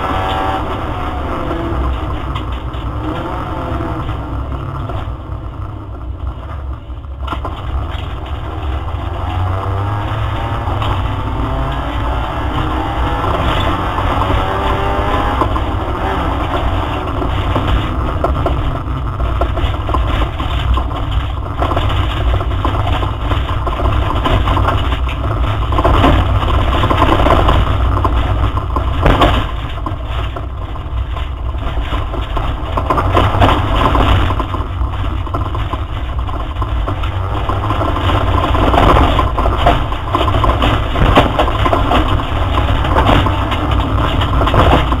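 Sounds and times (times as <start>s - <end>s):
car engine under load: 0.0s - 45.0s
road and tyre noise: 0.0s - 45.0s.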